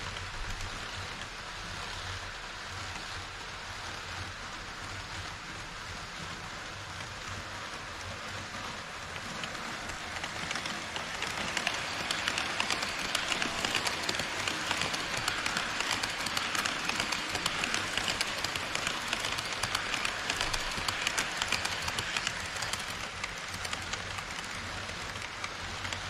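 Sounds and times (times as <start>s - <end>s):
model train wheels rattling on rails: 0.0s - 26.0s.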